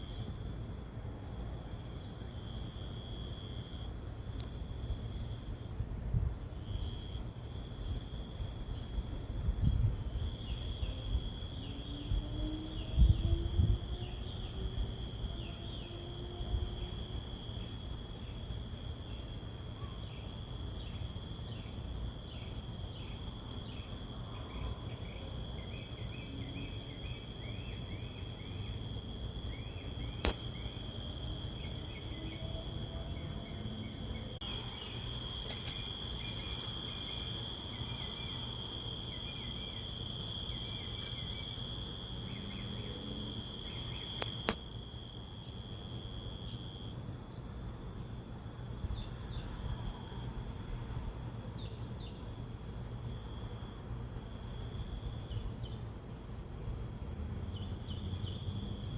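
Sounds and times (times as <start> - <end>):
cricket trill: 0.0 - 58.9.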